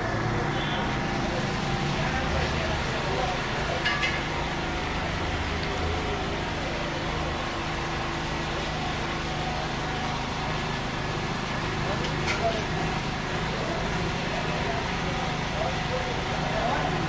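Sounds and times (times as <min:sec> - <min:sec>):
electric fan droning: 0:00.0 - 0:17.0.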